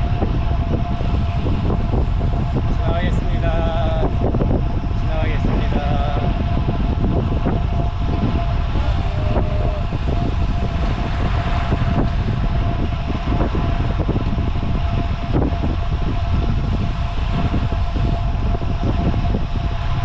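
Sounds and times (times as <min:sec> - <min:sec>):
thin constant whine: 0:00.0 - 0:20.0
wind buffeting microphone: 0:00.0 - 0:20.0.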